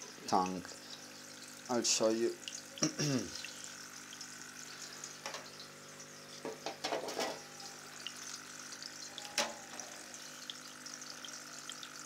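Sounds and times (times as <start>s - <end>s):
aquarium water trickling and splashing: 0.0s - 12.0s.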